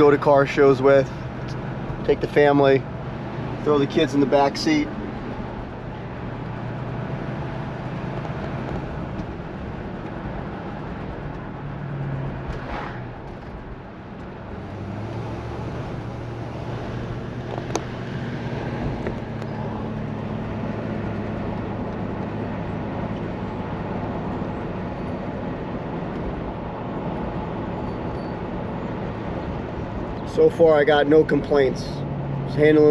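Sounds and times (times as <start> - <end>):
car engine running: 0.0 - 32.9
tyre and road noise: 0.0 - 32.9.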